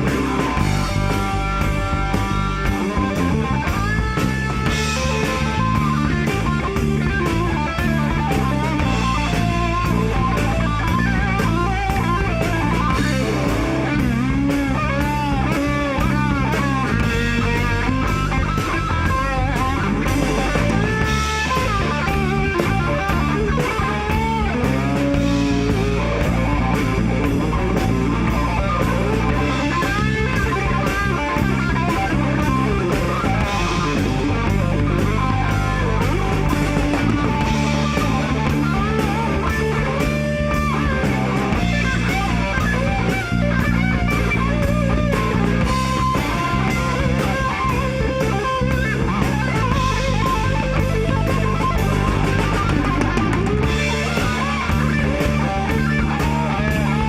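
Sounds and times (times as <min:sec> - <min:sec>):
bass guitar: 0:00.0 - 0:57.0
drum beat: 0:00.0 - 0:57.0
lead electric guitar bending notes: 0:00.0 - 0:57.0.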